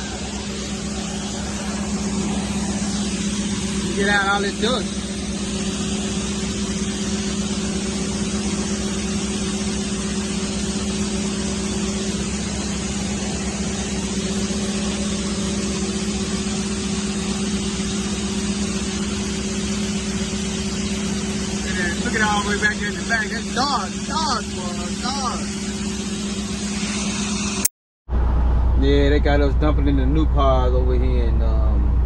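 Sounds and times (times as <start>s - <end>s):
vehicle engine humming steadily: 0.0s - 32.0s.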